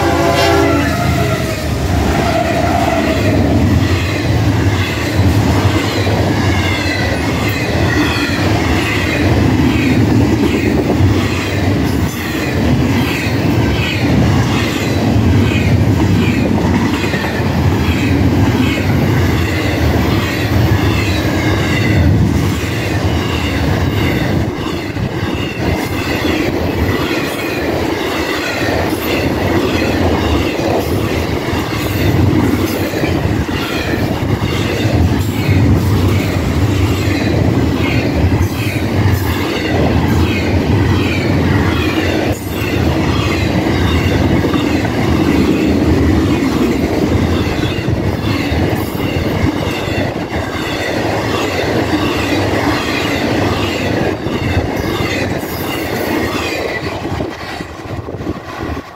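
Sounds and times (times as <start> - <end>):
freight train rumble: 0.0 - 58.9.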